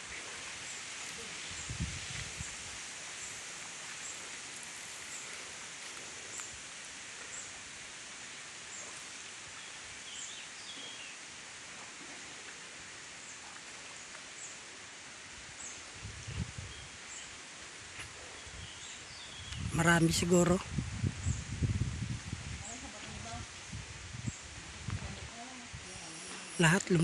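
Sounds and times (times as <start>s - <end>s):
river hiss: 0.0s - 27.0s.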